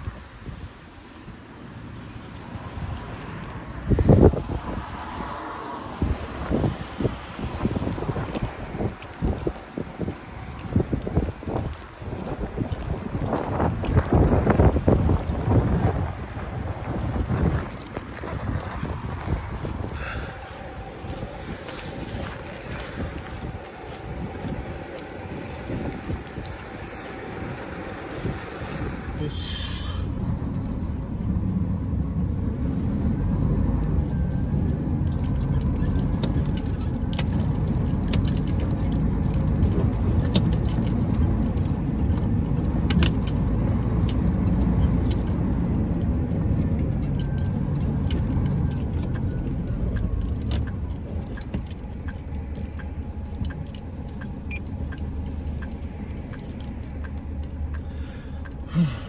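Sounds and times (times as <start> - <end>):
truck engine and road rumble: 0.0 - 59.0
cab fittings clicking and rattling: 2.4 - 4.7, 5.9 - 29.7, 33.8 - 58.9.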